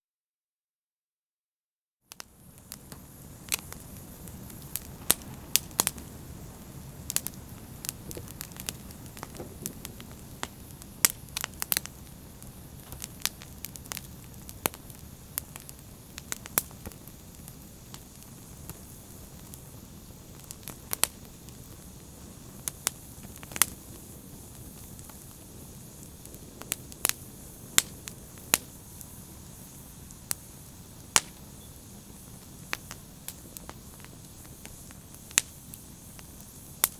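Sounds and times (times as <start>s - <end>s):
fire crackling and popping: 2.1s - 36.9s
fire rumbling: 2.2s - 36.9s.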